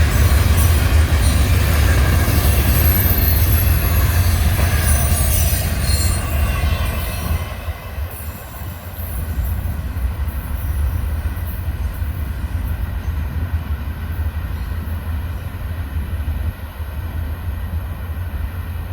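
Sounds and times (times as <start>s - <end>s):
train wheels squealing: 0.0s - 15.6s
freight train rumbling past: 0.0s - 18.9s.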